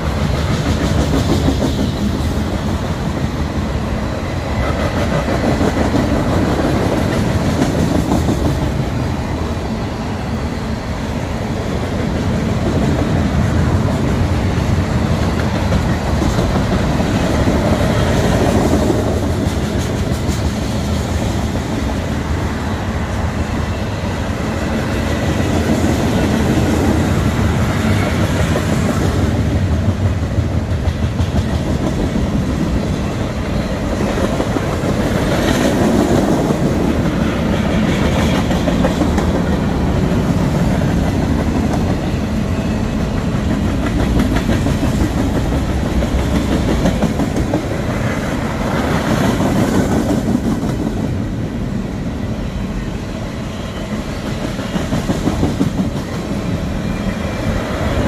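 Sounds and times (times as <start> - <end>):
train wheels clattering on rails: 0.0 - 51.8, 52.6 - 58.0.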